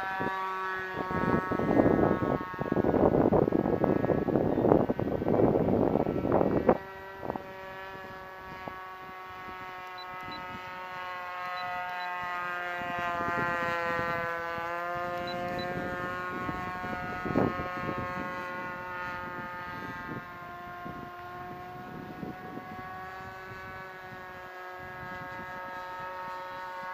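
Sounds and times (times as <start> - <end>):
model plane engine buzzing: 0.0 - 26.9.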